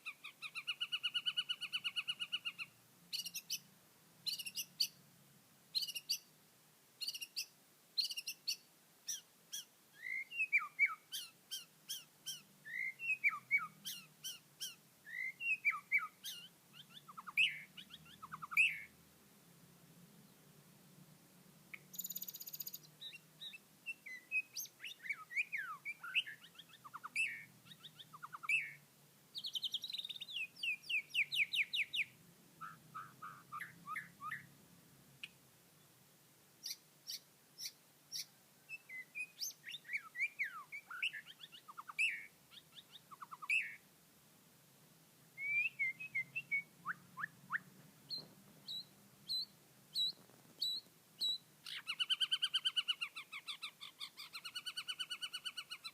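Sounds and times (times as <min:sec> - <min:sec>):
young birds chirping: 0:00.0 - 0:05.0, 0:05.7 - 0:06.3, 0:07.0 - 0:19.0, 0:21.7 - 0:34.6, 0:36.6 - 0:43.8, 0:45.4 - 0:55.9.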